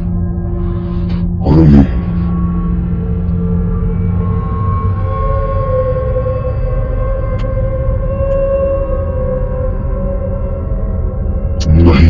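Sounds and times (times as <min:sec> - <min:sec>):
deep rumble: 0:00.0 - 0:12.0
eerie horror music drone: 0:00.0 - 0:12.0
higher sustained tone: 0:00.0 - 0:12.0.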